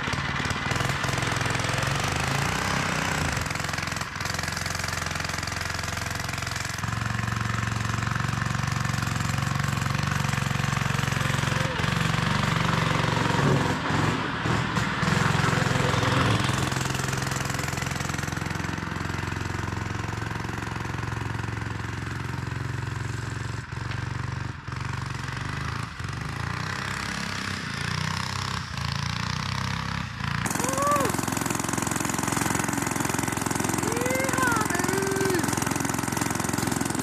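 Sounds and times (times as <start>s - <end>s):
small engine running under load: 0.0s - 37.0s.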